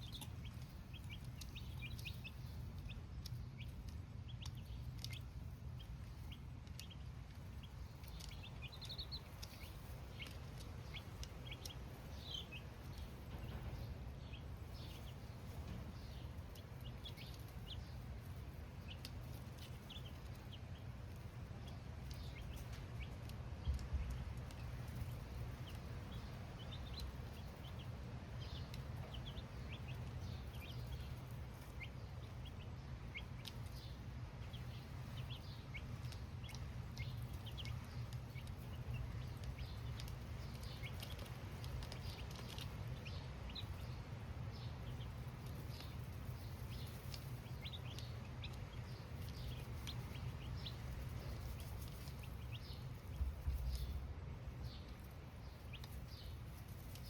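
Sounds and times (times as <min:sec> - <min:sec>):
baby chicks cheeping: 0:00.0 - 0:57.0.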